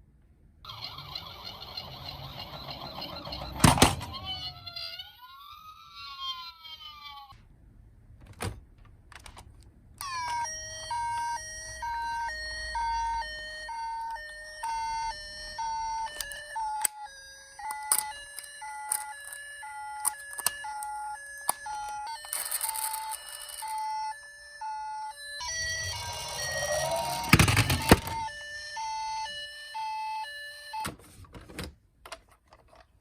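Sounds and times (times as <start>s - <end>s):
electronic two-tone toy siren: 0.6s - 7.3s, 10.0s - 31.0s.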